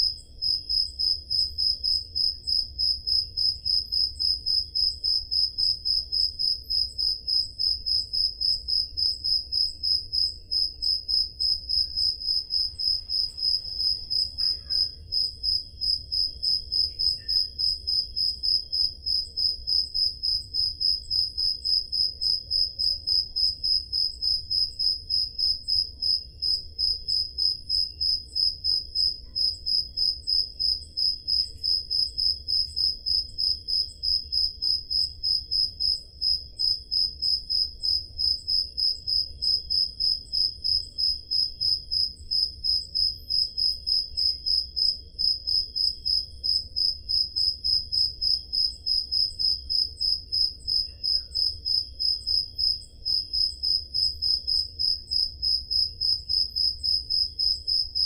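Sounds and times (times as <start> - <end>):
cricket chirping: 0.0 - 58.0
faint insects trilling: 0.0 - 58.0.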